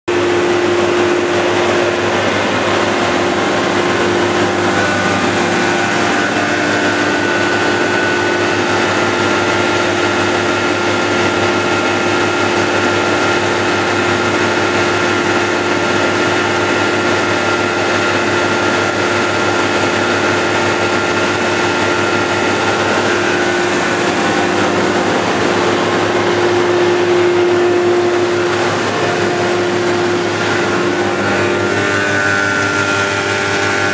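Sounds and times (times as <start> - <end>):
grain grinder mechanical drone: 0.1 - 33.9
rush of grain stream: 0.1 - 33.9.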